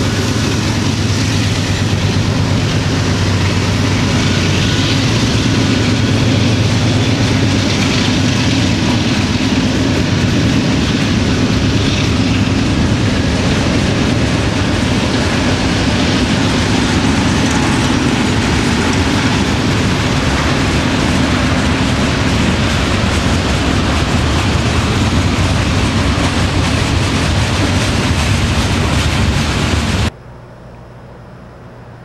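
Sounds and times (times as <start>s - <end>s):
freight cars rolling on rails: 0.0s - 30.1s.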